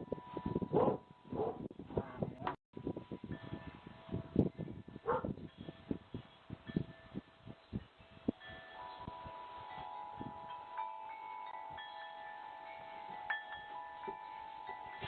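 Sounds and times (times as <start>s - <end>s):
wind chimes ringing: 0.0s - 1.3s, 2.8s - 15.0s.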